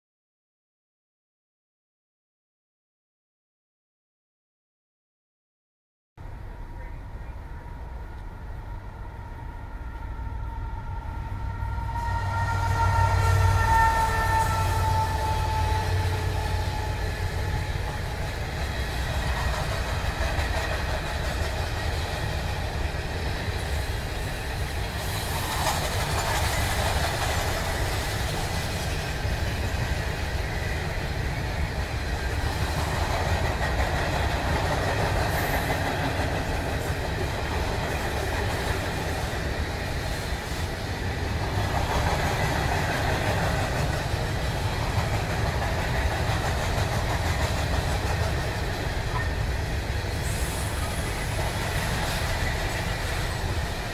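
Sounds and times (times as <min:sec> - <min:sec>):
freight train wheels rumbling: 0:06.2 - 0:53.9.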